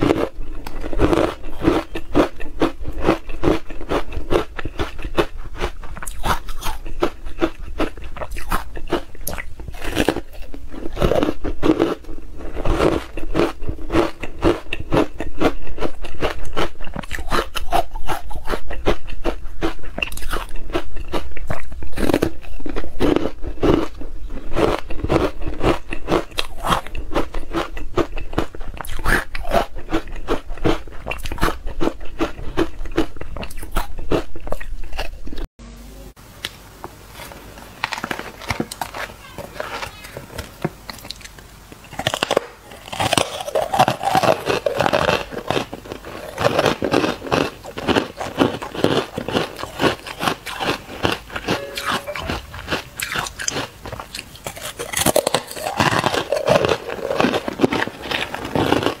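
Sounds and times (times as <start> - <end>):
crunching ice being chewed: 0.0 - 35.4, 37.1 - 59.0.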